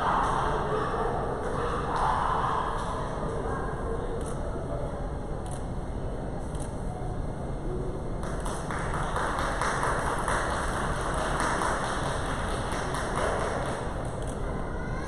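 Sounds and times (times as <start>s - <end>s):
crowd noise in echoing hall: 0.0s - 15.0s.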